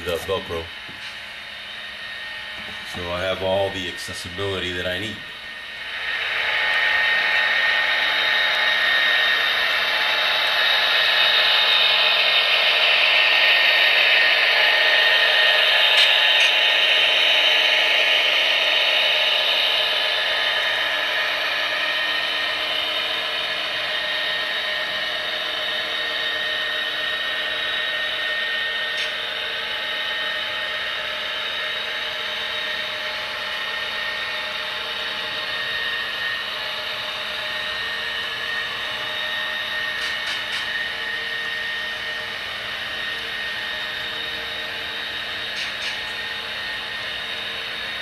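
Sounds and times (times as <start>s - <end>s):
small electric motor whining: 0.0s - 48.0s.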